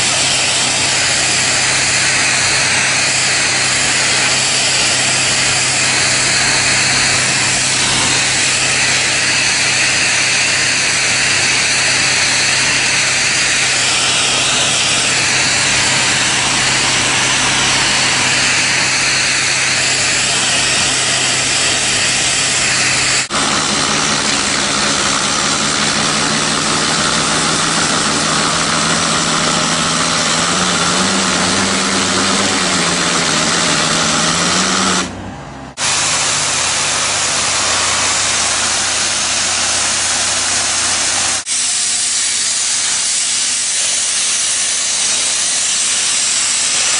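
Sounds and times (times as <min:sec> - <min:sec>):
pump engine hum: 0:00.0 - 0:46.9
water jet hissing: 0:00.0 - 0:46.9.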